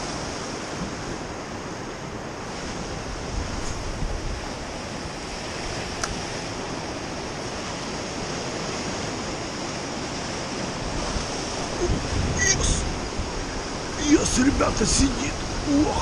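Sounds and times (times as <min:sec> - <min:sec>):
surf breaking over rocks: 0:02.2 - 0:16.0.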